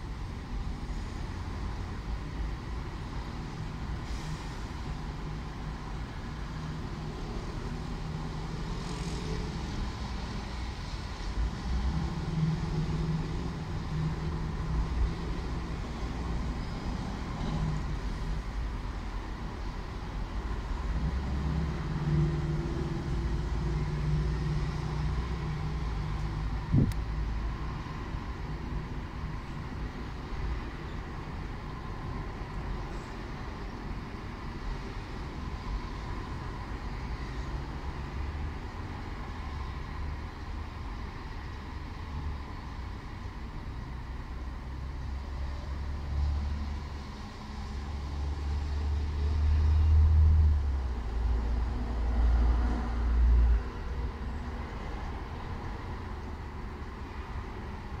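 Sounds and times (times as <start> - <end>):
rumble of passing cars: 0.0 - 58.0.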